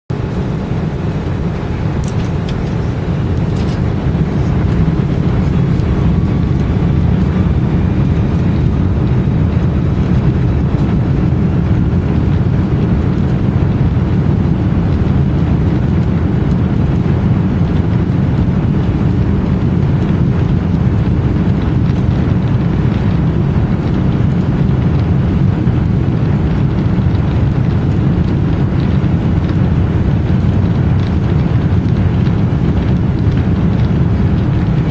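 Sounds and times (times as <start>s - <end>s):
airplane engines rumbling in cabin: 0.1s - 34.9s.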